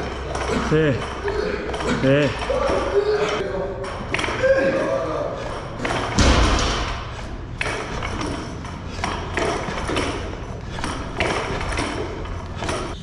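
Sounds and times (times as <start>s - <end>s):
barbell plates clinking and rattling: 0.0s - 13.0s
gym room noise: 0.0s - 13.0s.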